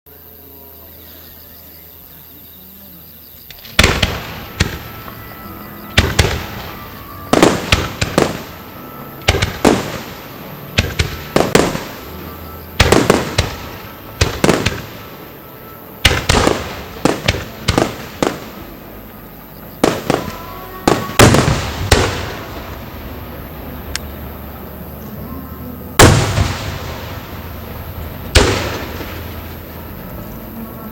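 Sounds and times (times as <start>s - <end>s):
fireworks bursting with booms: 3.4s - 30.9s
rolling echo: 3.5s - 30.9s.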